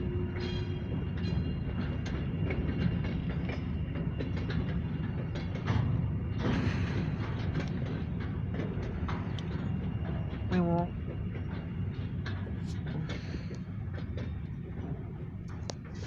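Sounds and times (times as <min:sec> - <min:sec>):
freight train rumbling: 0:00.0 - 0:16.0
wheels clicking and clanking: 0:00.0 - 0:16.0.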